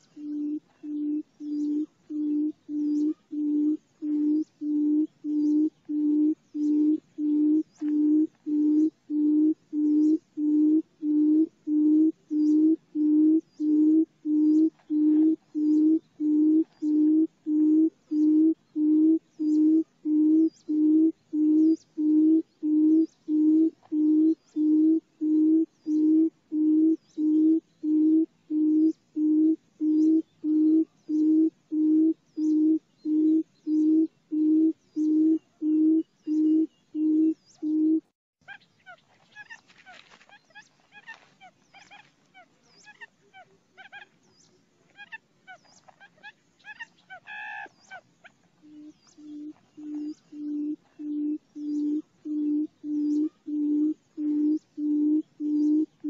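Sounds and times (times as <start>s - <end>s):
bird booming low hoots: 0.0s - 38.1s, 48.6s - 56.0s.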